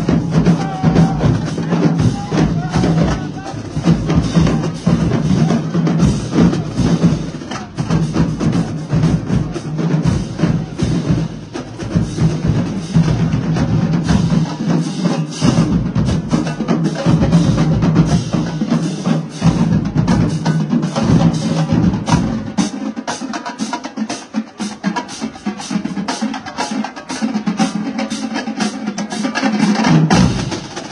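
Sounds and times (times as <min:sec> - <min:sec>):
low drums: 0:00.0 - 0:30.9
snare drums: 0:00.0 - 0:30.9.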